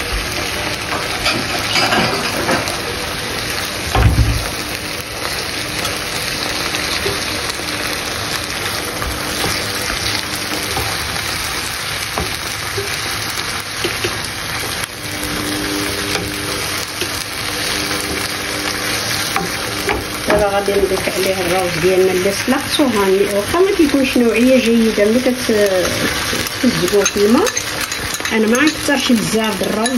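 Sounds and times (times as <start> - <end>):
food sizzling in a pan: 0.0 - 29.9.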